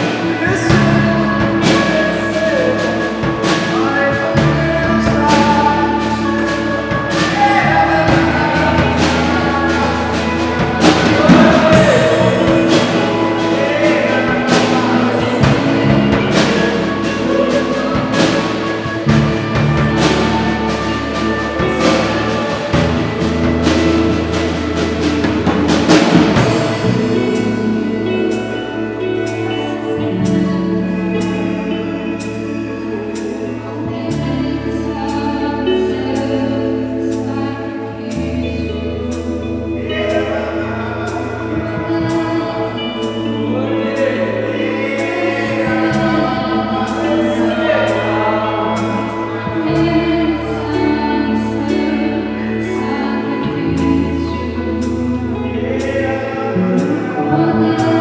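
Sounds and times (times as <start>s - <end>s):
band playing worship music: 0.0s - 58.0s
voices singing: 0.0s - 58.0s.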